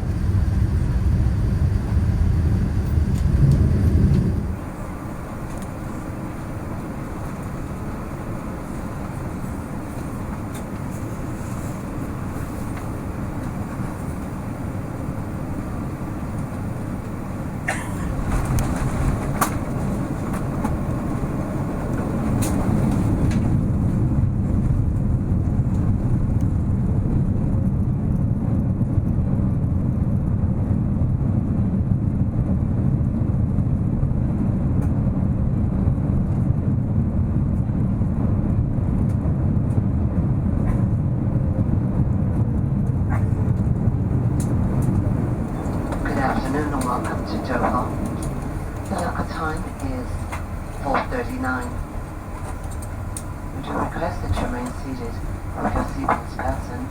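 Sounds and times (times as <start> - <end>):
jet engines and airflow rushing: 0.0 - 56.9
low rumble of jet on runway: 0.0 - 56.9.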